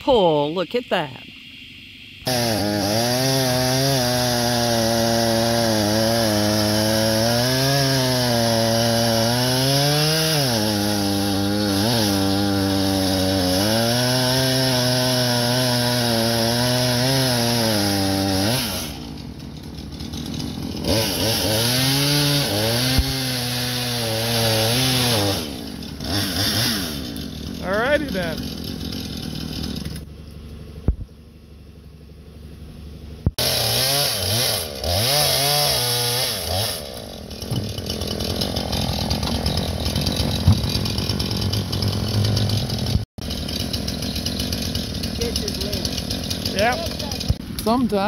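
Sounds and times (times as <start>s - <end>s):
chainsaw cutting log: 2.2s - 30.1s, 33.2s - 48.0s.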